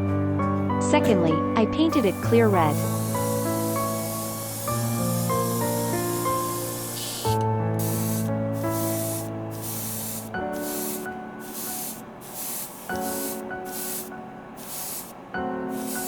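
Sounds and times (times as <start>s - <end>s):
background music: 0.0s - 16.0s
spray paint hissing bursts: 1.9s - 16.0s.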